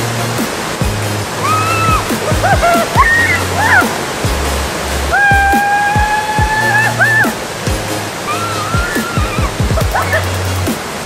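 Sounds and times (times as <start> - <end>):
background music with drum beat: 0.0 - 11.0
waterfall rushing: 0.0 - 11.0.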